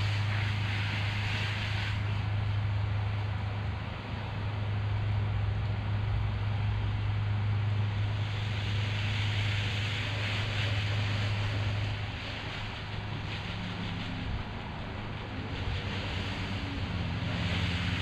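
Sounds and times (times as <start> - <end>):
hose spraying water on siding: 0.0 - 18.0
low mechanical hum: 0.0 - 18.0.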